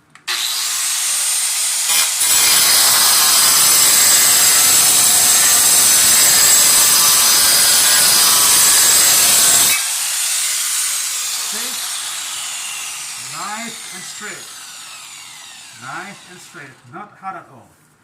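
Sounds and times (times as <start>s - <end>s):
angle grinder cutting tile: 0.3s - 16.8s.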